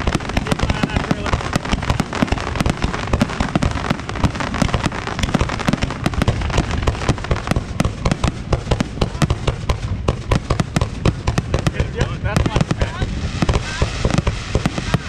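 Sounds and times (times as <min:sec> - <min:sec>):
continuous low rumble: 0:00.0 - 0:15.0
fireworks bangs and pops: 0:00.0 - 0:15.0.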